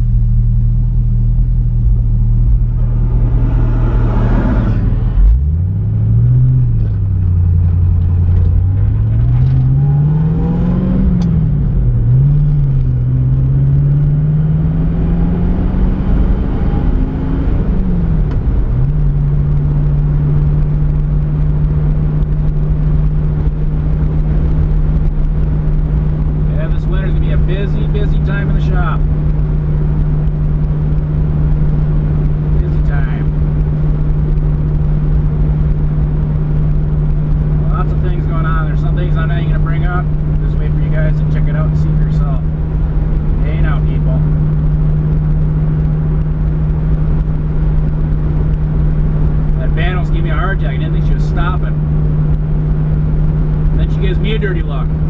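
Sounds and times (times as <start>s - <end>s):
car engine idling and accelerating: 0.0s - 55.0s
passing vehicle whoosh: 2.2s - 55.0s.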